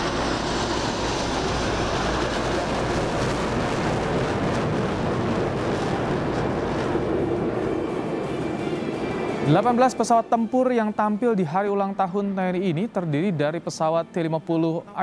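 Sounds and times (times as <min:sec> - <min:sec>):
jet aircraft flying over: 0:00.0 - 0:15.0.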